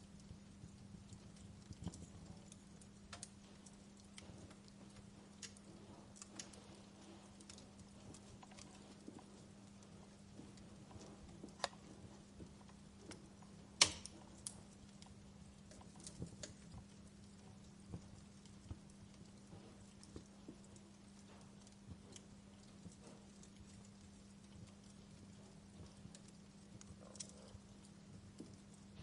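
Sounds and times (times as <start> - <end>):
faint low hum: 0.0 - 29.0
wood fire crackling: 0.0 - 29.0.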